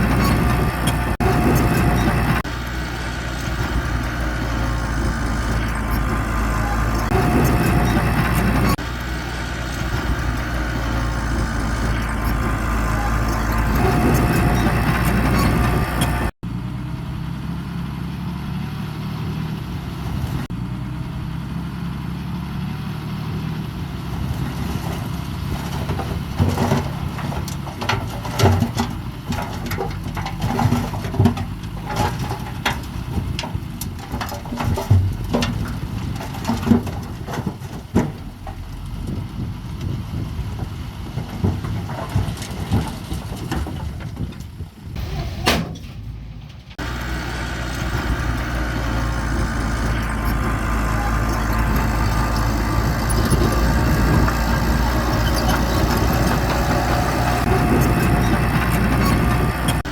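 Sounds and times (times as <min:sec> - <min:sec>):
heavy machine engine running: 0:00.0 - 0:59.9.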